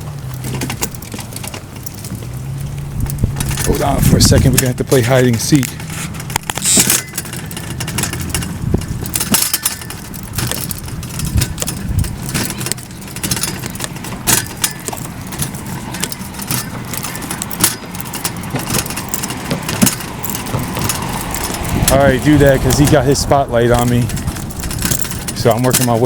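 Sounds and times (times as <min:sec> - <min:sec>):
low engine-like hum: 0:00.0 - 0:26.0
short rattling clicks: 0:00.2 - 0:26.0.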